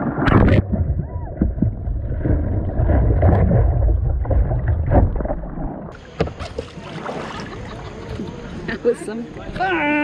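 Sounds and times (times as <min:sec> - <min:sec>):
water splashing around kayak: 0:00.0 - 0:10.0.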